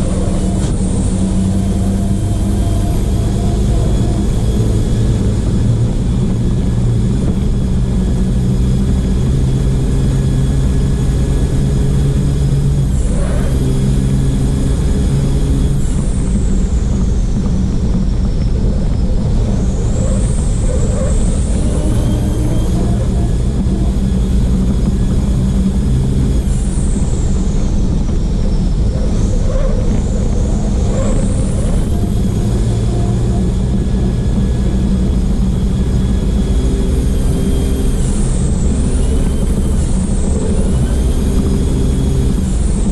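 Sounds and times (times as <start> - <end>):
high whine: 0.0 - 42.9
truck diesel engine racing: 0.0 - 42.9.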